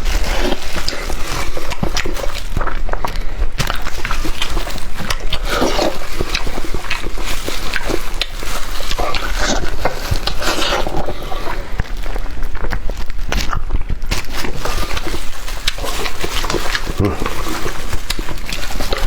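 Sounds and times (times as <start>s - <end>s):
person chewing wetly: 0.0s - 19.0s.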